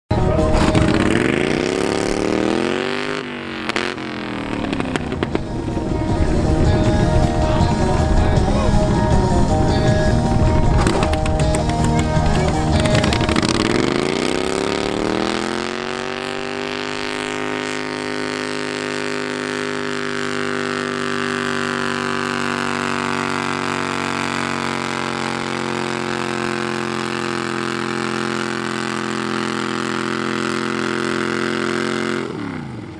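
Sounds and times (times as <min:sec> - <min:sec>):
tractor engine revving: 0:00.1 - 0:32.9.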